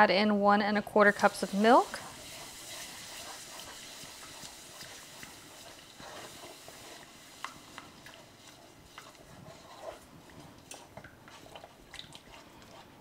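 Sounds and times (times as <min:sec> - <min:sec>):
faint steady sizzle: 0:00.0 - 0:13.0.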